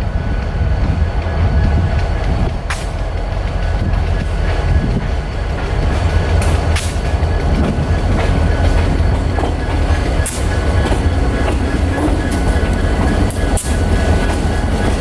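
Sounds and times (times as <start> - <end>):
freight train rumbling: 0.0 - 15.0
wheels clicking over rail joints: 1.4 - 15.0.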